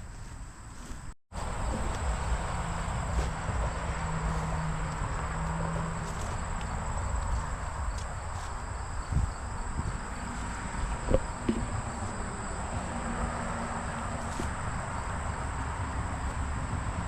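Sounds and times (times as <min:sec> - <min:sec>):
high insect buzz: 0:00.8 - 0:15.8
low rumbling noise: 0:01.3 - 0:17.0.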